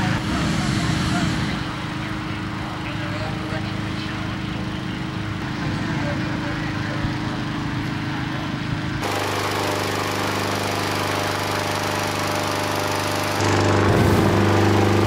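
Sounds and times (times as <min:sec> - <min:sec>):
balloon inflator fan running: 0:00.0 - 0:15.0.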